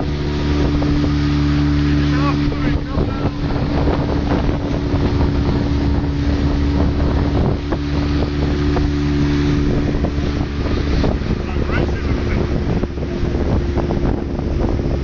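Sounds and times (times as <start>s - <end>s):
motorboat engine running: 0.0s - 15.0s
wind buffeting microphone: 0.0s - 15.0s.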